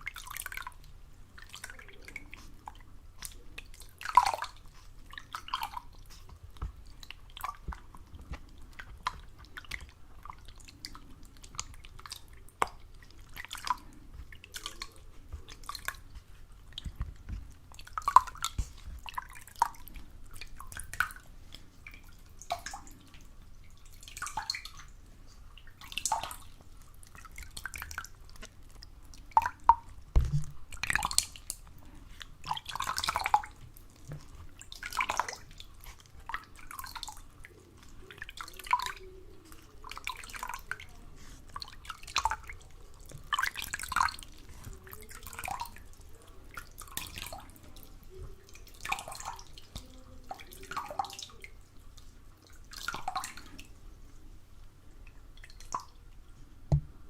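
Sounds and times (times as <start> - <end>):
water dripping: 0.0 - 53.8, 54.6 - 57.0.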